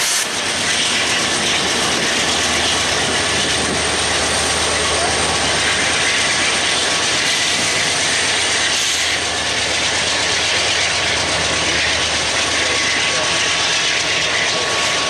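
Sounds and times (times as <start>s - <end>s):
distant diesel locomotive drone: 0.0s - 15.0s
train wheels clattering on rail: 0.0s - 15.0s.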